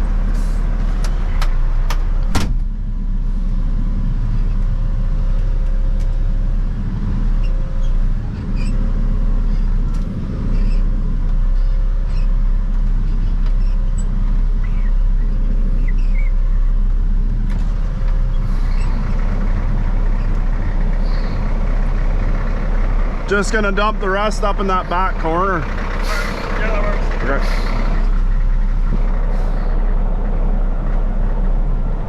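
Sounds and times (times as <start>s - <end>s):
diesel truck engine rumbling: 0.0s - 32.0s.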